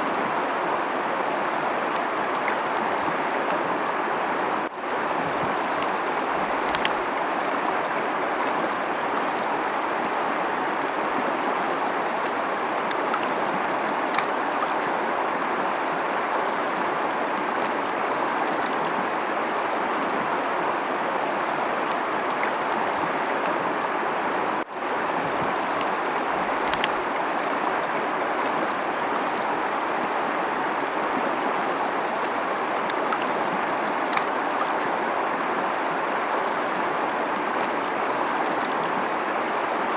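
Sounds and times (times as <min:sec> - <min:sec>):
river rushing and splashing: 0:00.0 - 0:39.9.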